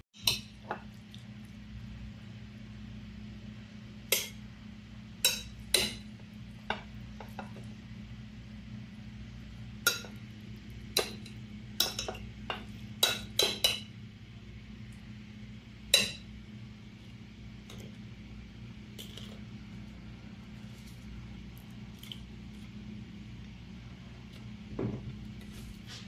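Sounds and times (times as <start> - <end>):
steady low hum: 0.2 - 26.0.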